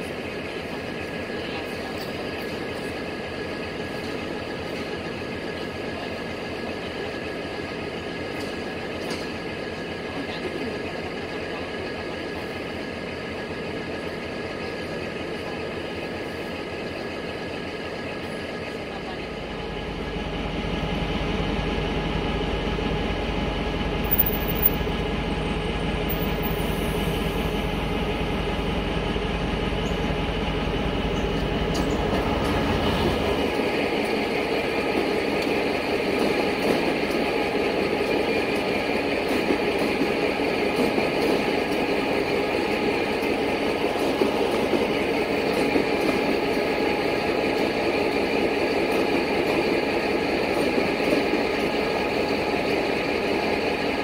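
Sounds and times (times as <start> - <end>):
train running alongside platform: 0.0 - 54.0.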